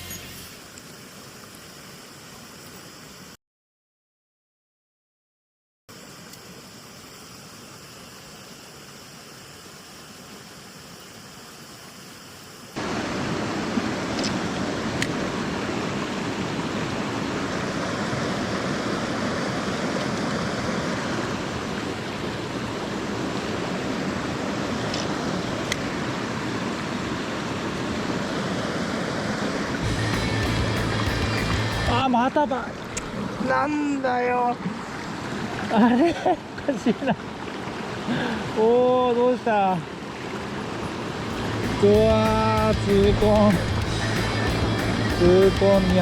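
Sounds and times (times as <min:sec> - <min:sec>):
stream water rushing: 0:00.0 - 0:03.4, 0:05.9 - 0:46.0.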